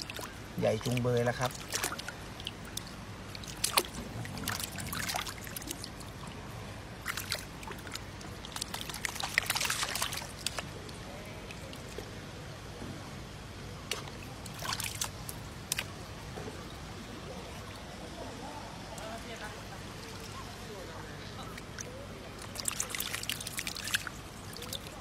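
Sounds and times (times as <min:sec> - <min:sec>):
water pouring into a pond: 0:00.0 - 0:12.3, 0:13.8 - 0:19.4, 0:21.3 - 0:25.0
water sloshing in a plastic basin: 0:00.0 - 0:25.0.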